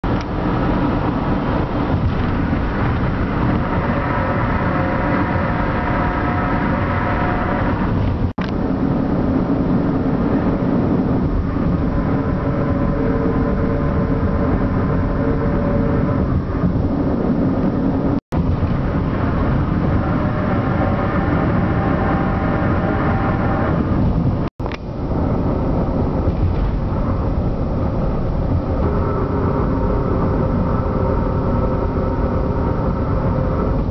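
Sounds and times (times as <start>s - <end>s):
tire road roar: 0.0s - 33.9s.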